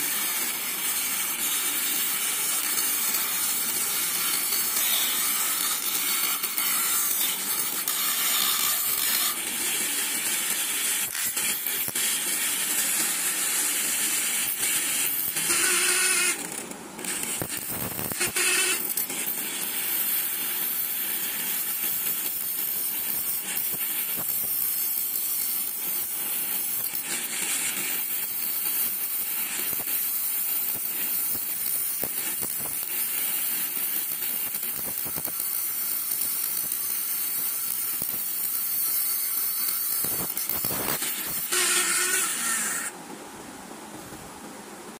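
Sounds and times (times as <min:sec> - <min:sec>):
angle grinder cutting metal: 0:00.0 - 0:43.0.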